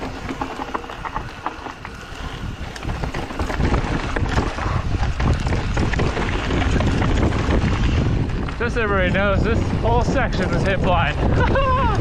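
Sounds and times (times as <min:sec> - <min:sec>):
bike rattling and clicking: 0:00.0 - 0:12.0
tyres on dirt and loose rock: 0:00.0 - 0:12.0
wind rushing over microphone: 0:00.0 - 0:12.0.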